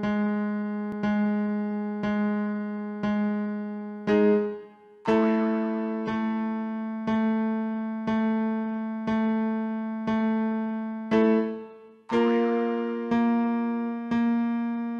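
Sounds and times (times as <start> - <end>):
piano chords: 0.0 - 14.9.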